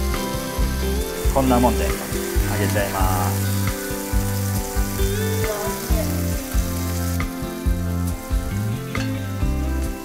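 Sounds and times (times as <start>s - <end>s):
meat sizzling in a frying pan: 0.0s - 10.0s
music with steady beat: 0.0s - 10.0s.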